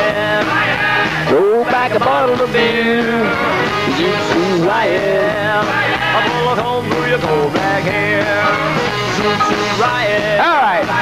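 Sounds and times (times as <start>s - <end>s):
rock song with singer and band: 0.0s - 11.0s.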